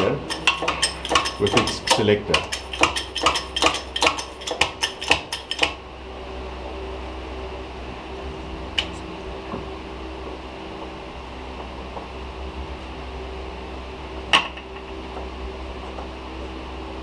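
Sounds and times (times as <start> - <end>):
workshop hum: 0.0 - 17.0.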